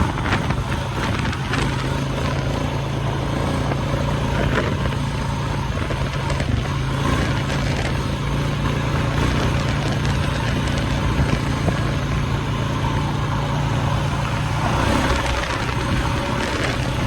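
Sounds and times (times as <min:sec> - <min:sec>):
rushing road noise: 0:00.0 - 0:17.0
vehicle engine running: 0:00.0 - 0:17.0.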